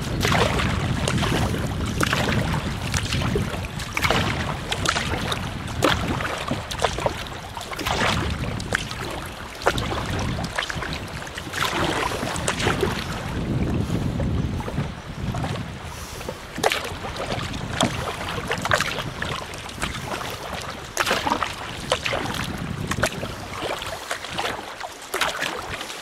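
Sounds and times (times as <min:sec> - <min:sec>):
paddle splashing water: 0:00.0 - 0:26.0
waves against kayak hull: 0:00.0 - 0:26.0.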